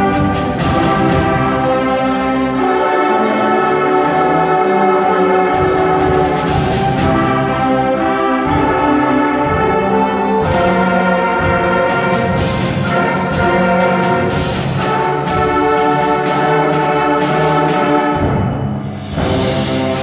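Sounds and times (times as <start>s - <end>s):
percussion hits: 0.0s - 4.6s, 5.2s - 20.0s
brass chords: 0.0s - 20.0s.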